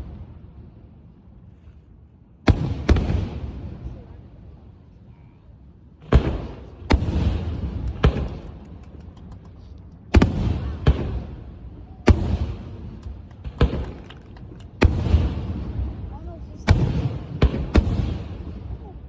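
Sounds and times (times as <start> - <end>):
fireworks bangs with rumbling echo: 0.0 - 1.4, 2.4 - 4.8, 5.9 - 19.0.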